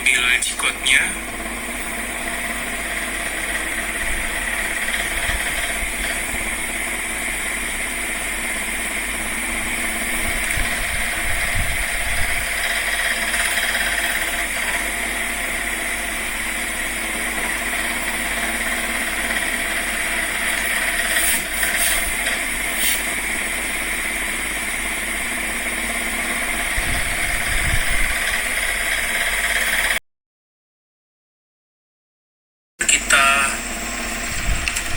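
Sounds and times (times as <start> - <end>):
motor droning: 0.0 - 30.0, 32.8 - 34.9.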